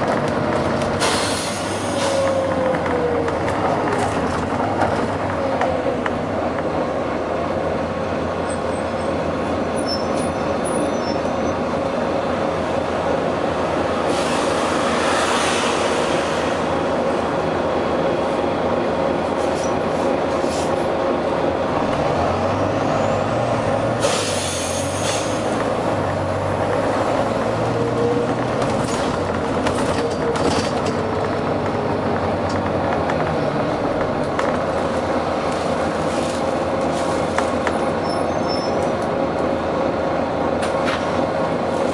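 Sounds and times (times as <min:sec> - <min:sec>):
diesel bus engine running: 0:00.0 - 0:41.9.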